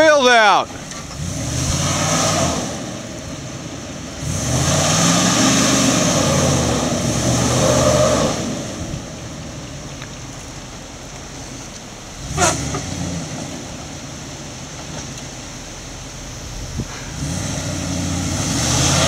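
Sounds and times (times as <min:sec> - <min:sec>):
pickup truck engine revving: 0:00.7 - 0:09.9, 0:11.0 - 0:19.0.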